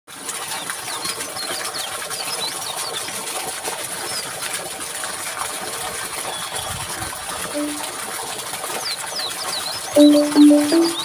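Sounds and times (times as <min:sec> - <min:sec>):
water trickling into pond: 0:00.1 - 0:11.0.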